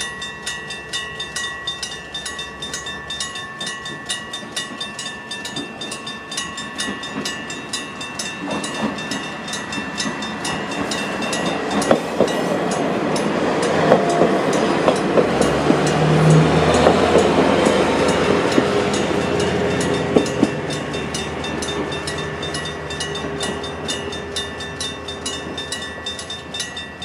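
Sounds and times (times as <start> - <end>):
level crossing bells ringing: 0.0 - 27.0
train engine and wheel noise: 0.0 - 27.0
clacks over rail joints: 3.6 - 27.0.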